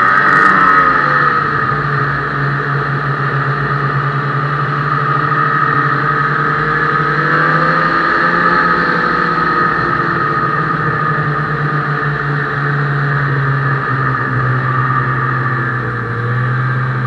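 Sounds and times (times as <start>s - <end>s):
snowmobile engine and track running: 0.0s - 17.0s.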